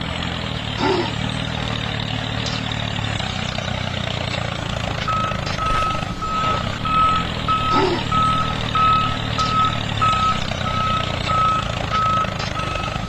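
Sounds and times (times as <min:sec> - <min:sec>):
truck reversing alarm beeping: 0:00.7 - 0:13.0.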